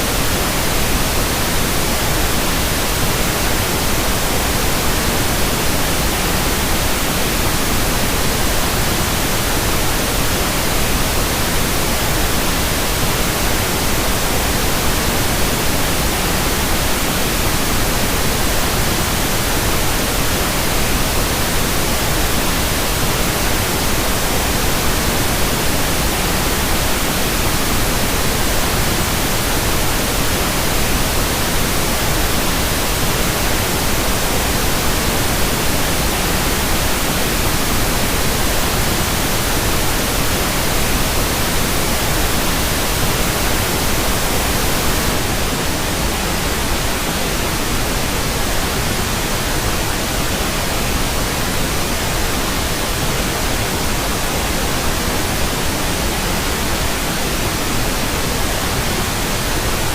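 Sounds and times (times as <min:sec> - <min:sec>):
constant noise hiss: 0:00.0 - 0:59.9.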